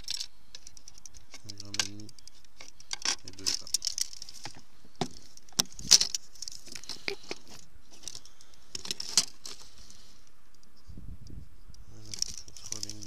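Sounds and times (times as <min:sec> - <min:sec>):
scraping rustles: 0:00.0 - 0:13.0.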